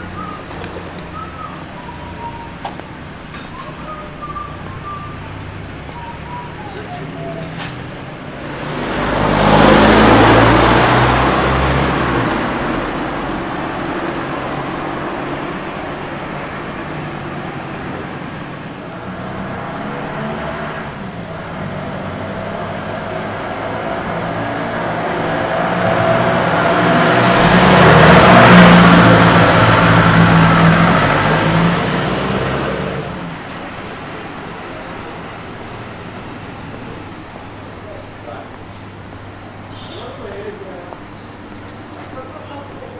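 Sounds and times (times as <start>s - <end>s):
cars passing by: 0.0s - 42.9s
quiet traffic: 0.0s - 42.9s.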